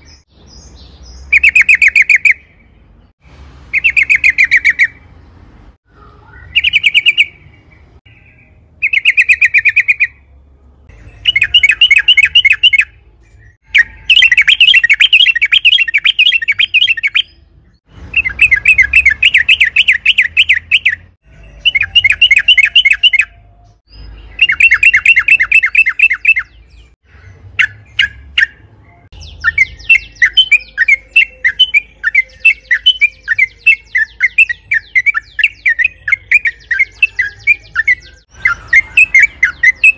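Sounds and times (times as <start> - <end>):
bird chattering song: 0.0 - 2.7, 3.7 - 5.1, 6.0 - 39.9.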